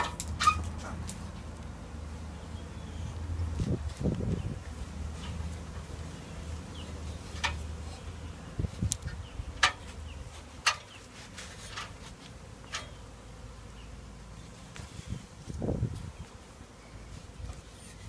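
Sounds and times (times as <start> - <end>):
bee swarm buzzing: 0.0 - 18.0.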